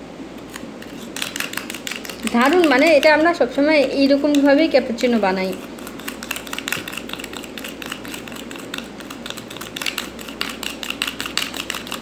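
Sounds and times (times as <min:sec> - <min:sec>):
spoon whisking in a bowl: 0:00.4 - 0:12.0.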